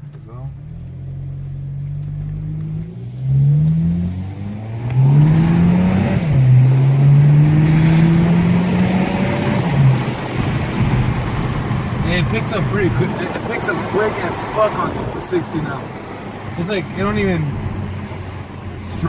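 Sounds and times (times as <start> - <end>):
car exhaust accelerating hard: 0.0 - 19.0.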